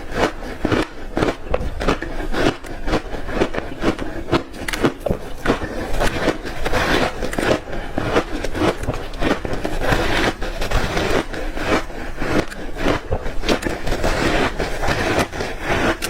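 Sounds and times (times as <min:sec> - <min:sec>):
ice being chewed crunching: 0:00.0 - 0:16.0.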